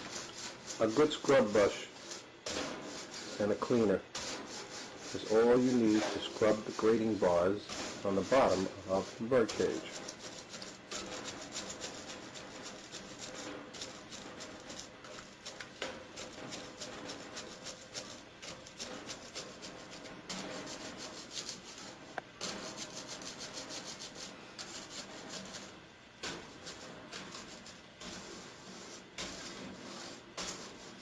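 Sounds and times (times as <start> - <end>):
brush scrubbing metal bars: 0.0 - 31.0.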